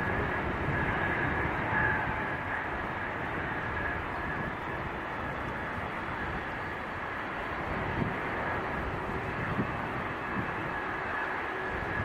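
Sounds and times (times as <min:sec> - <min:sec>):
faint high engine whine: 0:00.0 - 0:12.0
jet engines rushing: 0:00.0 - 0:12.0.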